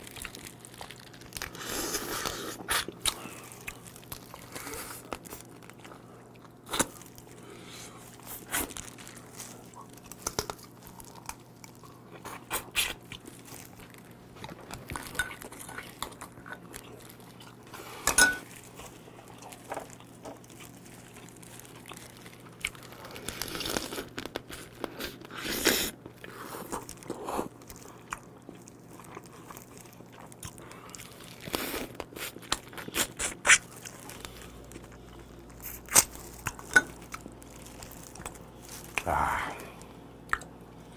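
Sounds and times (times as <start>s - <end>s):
crunching and chewing crab shells: 0.0s - 40.9s.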